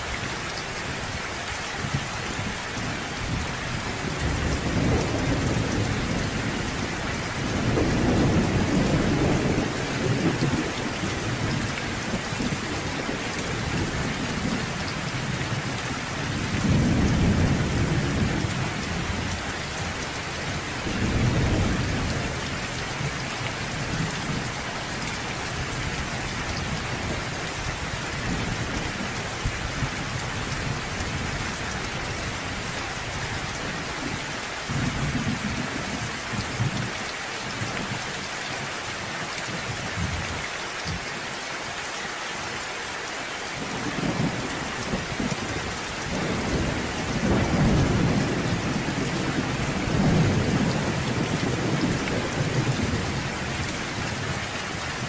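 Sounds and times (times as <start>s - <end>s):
steady rain falling: 0.0s - 55.0s
low thunder rumbling: 1.8s - 34.1s, 34.7s - 36.9s, 43.6s - 55.0s.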